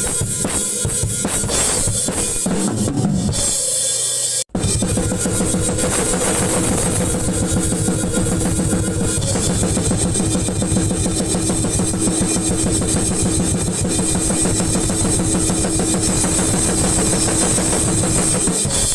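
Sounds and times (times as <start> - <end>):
fast metal drumming: 0.0 - 18.9.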